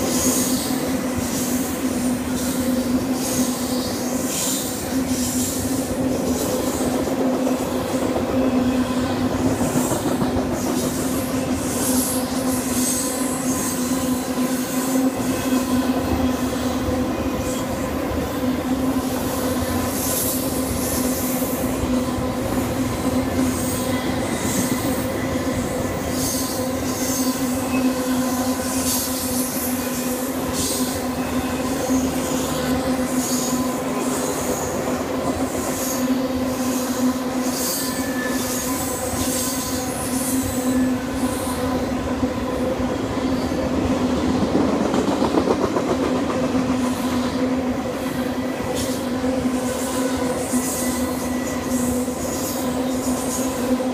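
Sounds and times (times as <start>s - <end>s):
freight train rolling past: 0.0s - 53.9s
train wheel squeals: 0.0s - 53.9s.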